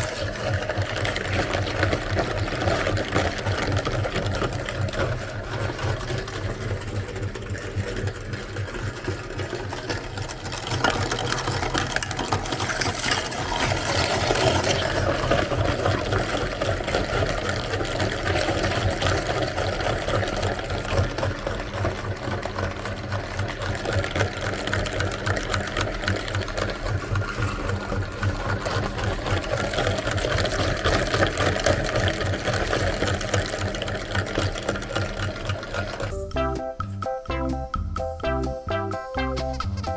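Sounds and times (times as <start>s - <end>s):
electric meat grinder running: 0.0s - 36.9s.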